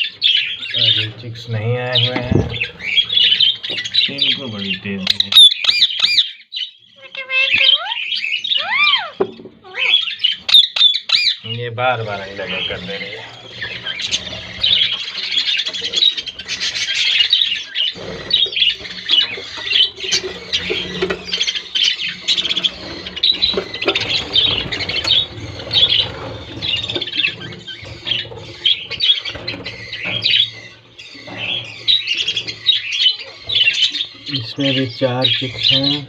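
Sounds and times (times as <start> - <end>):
budgerigars chattering and squawking: 0.0 - 36.0.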